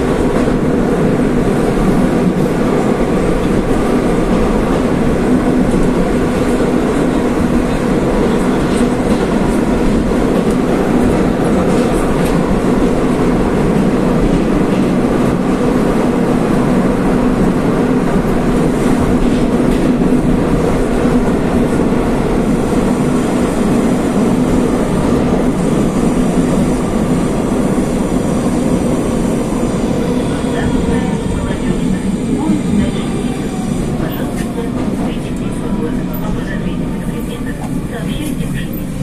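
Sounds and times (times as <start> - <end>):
metro train wheels rumbling: 0.0 - 39.0.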